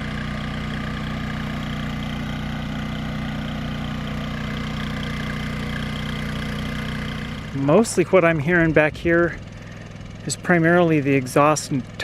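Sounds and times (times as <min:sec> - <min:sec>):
generator running: 0:00.0 - 0:12.0.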